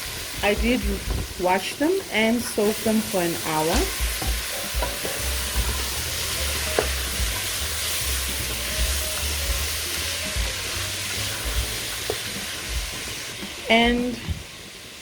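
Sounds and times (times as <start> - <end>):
vegetables sizzling in a pot: 0.0 - 15.0.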